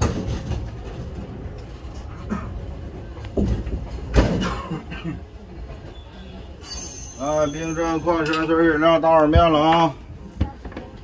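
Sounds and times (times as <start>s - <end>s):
train rumbling slowly: 0.0s - 11.0s.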